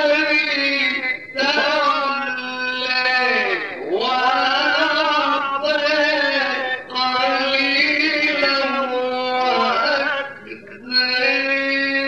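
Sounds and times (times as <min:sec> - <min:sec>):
man reciting in melodic chant: 0:00.0 - 0:12.0.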